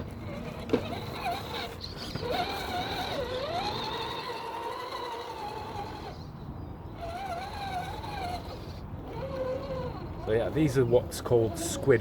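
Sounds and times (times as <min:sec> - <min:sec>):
electric motor and gears whining: 0:00.0 - 0:12.0.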